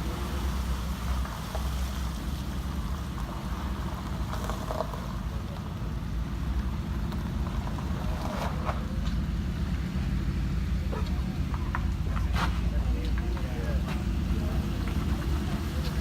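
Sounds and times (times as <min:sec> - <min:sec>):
vehicle driving off-road rumble: 0:00.0 - 0:16.0.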